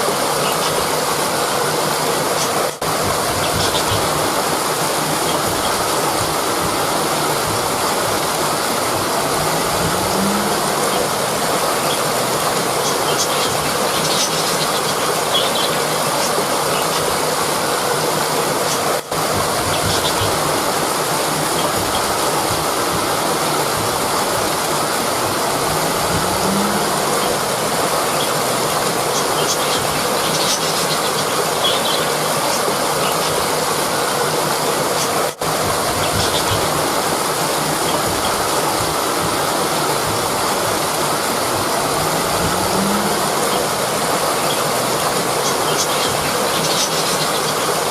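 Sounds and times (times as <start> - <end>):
rushing river water: 0.0 - 47.9.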